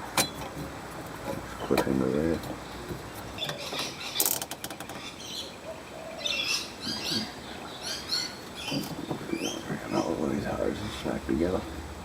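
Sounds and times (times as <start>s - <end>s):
birds chirping: 1.2s - 11.9s.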